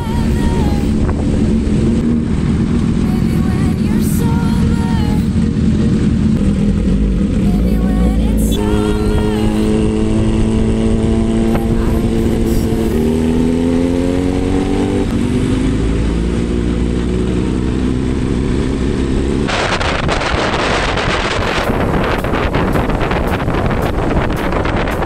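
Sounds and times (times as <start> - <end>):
wind noise on microphone: 0.0 - 6.0, 7.0 - 16.0, 18.3 - 25.0
motorcycle engine running: 0.0 - 25.0.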